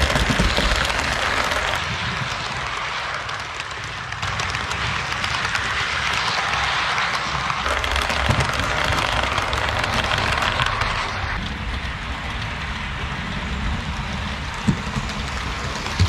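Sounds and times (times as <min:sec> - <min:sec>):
model train wheels rattling on track: 0:00.0 - 0:16.0.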